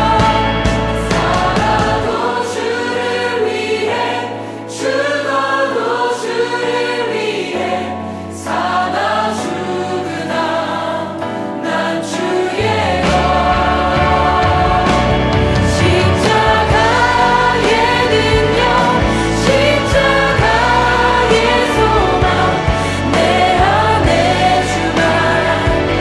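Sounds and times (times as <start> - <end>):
choir singing gospel song: 0.0 - 26.0
musical accompaniment: 0.0 - 26.0.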